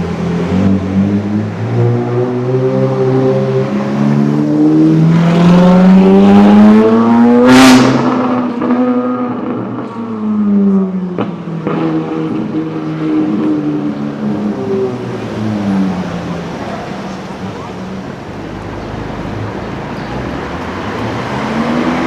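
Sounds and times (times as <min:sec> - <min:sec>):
sports car accelerating past: 0:00.1 - 0:22.0.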